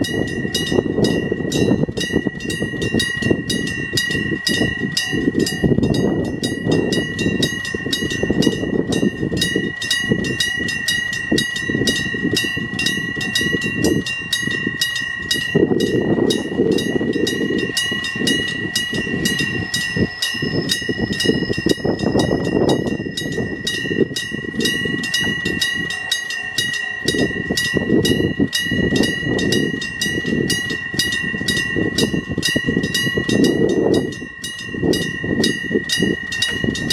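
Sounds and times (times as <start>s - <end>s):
level-crossing warning bell ringing: 0.0s - 36.9s
train rumbling on tracks: 0.0s - 36.9s.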